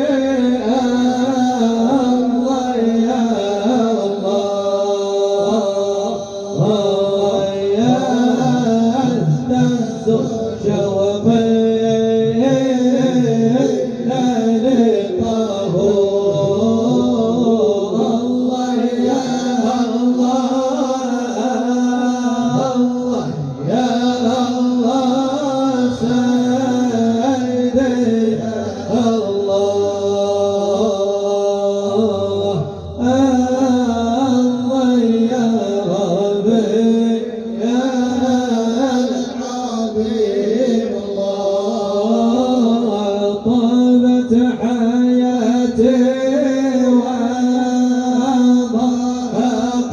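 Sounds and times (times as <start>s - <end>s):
person singing devotional chant: 0.0s - 49.9s.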